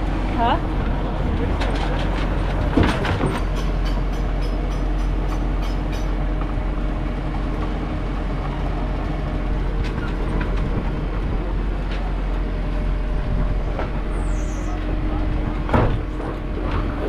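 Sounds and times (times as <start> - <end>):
tractor engine rumble: 0.0 - 17.0.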